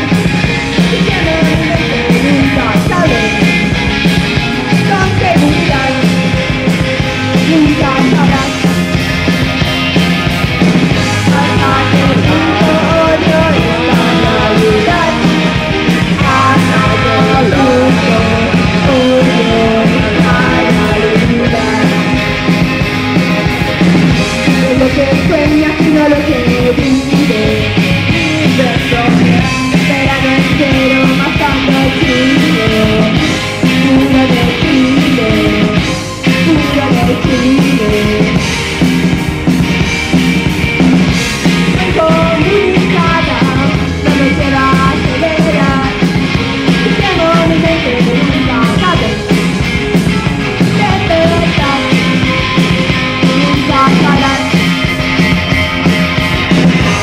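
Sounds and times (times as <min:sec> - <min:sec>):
lead vocal singing: 0:00.0 - 0:08.9, 0:10.8 - 0:38.6, 0:41.2 - 0:55.6
rock band playing: 0:00.0 - 0:57.0.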